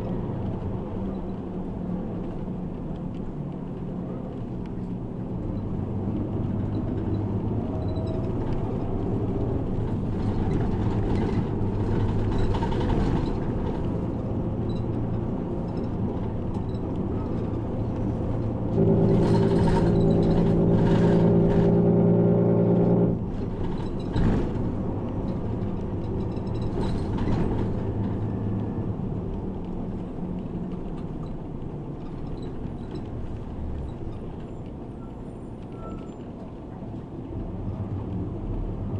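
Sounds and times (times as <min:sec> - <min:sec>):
bus engine hum: 0:00.0 - 0:38.9
road noise: 0:00.0 - 0:38.9.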